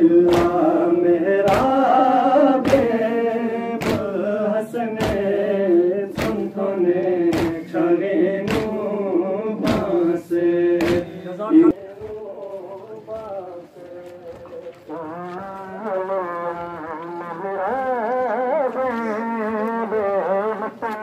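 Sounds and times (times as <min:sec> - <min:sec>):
men chanting in unison: 0:00.0 - 0:21.0
sharp rhythmic slaps: 0:00.0 - 0:21.0.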